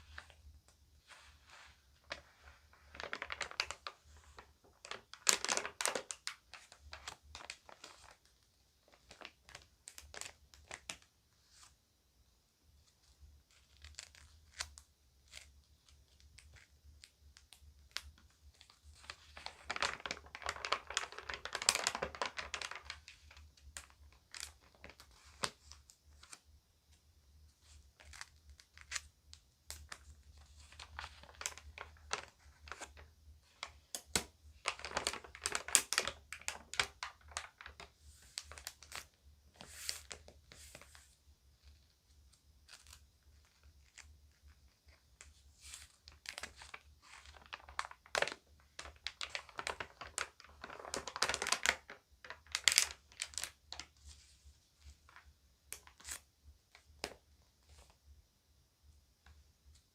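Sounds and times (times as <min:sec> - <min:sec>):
magazine pages crinkling: 0:00.0 - 0:11.7, 0:13.5 - 0:26.4, 0:27.6 - 0:29.1, 0:29.7 - 0:41.9, 0:42.6 - 0:58.0.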